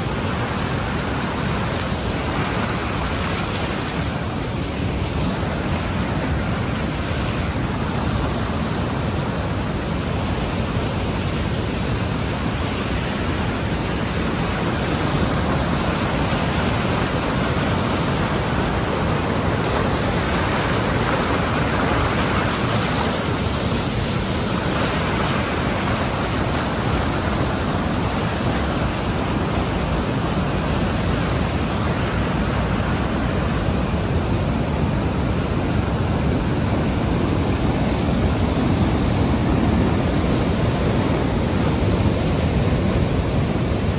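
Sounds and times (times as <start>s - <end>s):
waterfall and rapids rushing: 0.0s - 43.9s.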